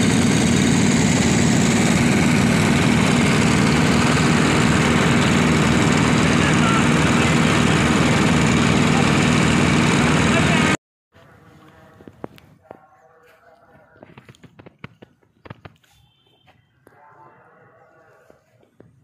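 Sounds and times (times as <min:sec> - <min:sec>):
lawn mower engines running: 0:00.0 - 0:16.2.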